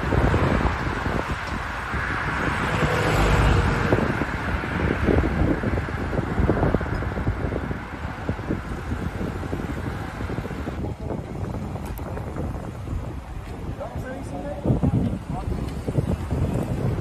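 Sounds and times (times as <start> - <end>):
highway traffic passing: 0.0 - 17.0
wind buffeting microphone: 0.0 - 17.0.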